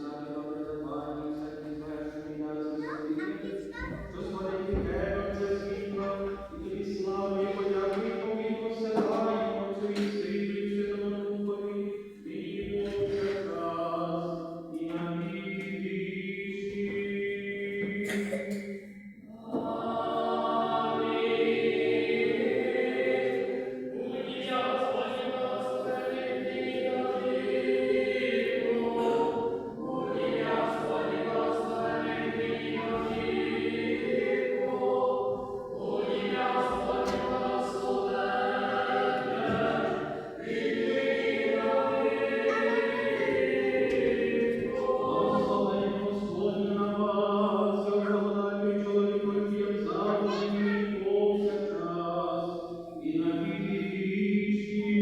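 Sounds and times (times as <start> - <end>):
choir singing chant: 0.0 - 55.0.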